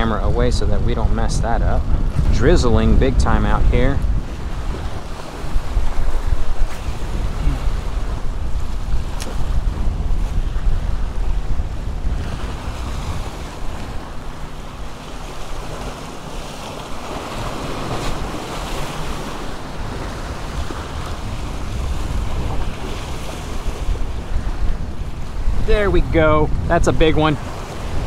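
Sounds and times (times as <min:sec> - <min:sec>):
wind buffeting microphone: 0:00.0 - 0:28.0
waves washing against rocks: 0:01.9 - 0:28.0.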